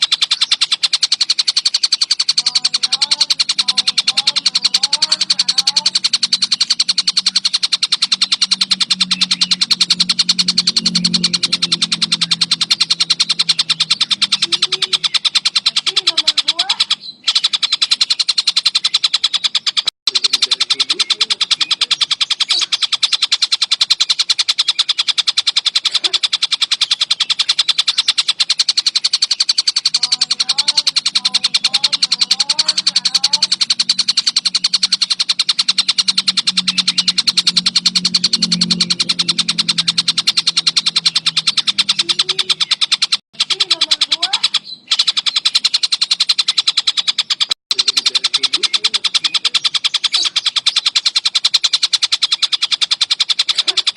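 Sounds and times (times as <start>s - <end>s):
fainter lower bird calls: 0.0s - 53.9s
kingfisher rattling chatter: 0.0s - 53.9s.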